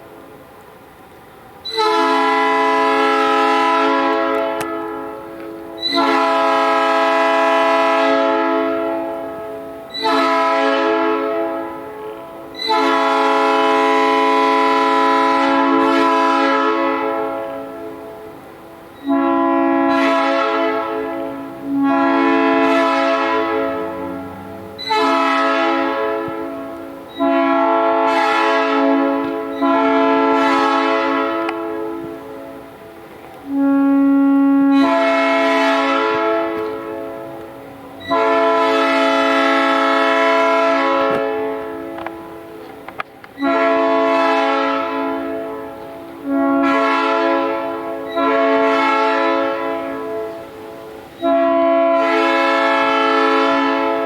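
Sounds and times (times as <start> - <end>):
train horn blasts: 1.6 - 42.7, 43.3 - 54.0.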